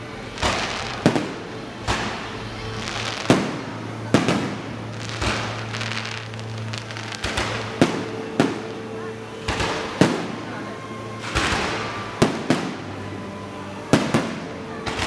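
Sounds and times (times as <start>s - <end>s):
firework bangs: 0.0s - 15.0s
firework crackling: 0.0s - 15.0s.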